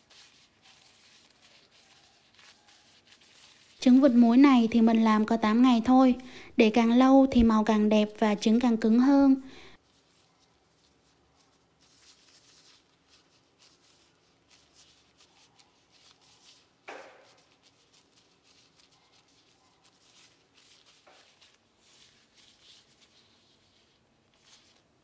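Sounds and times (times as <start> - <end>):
plastic gloves rustling: 0.0 - 25.0.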